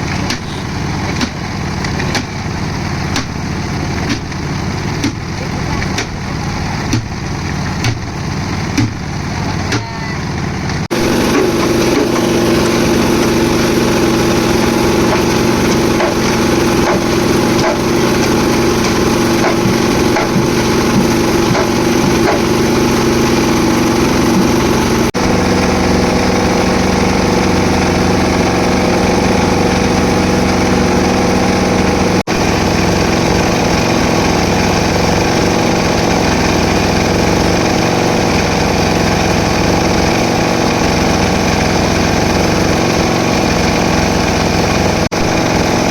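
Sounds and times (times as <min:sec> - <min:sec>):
concrete mixer engine running: 0:00.0 - 0:45.9.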